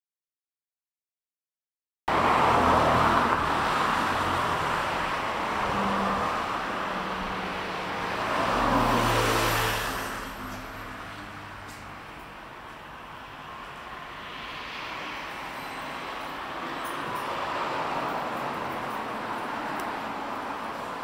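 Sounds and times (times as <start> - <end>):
road traffic noise: 2.1 - 21.0
vehicle passing rumble: 2.1 - 21.0.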